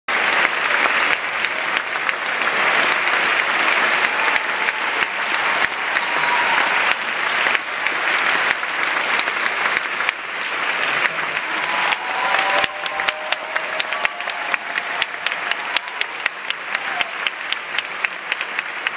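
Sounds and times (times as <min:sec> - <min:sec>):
audience applauding: 0:00.1 - 0:18.9.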